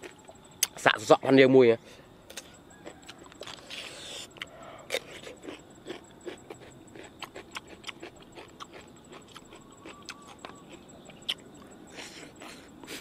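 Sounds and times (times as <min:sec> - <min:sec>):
chewing crunchy food: 0:02.3 - 0:13.0.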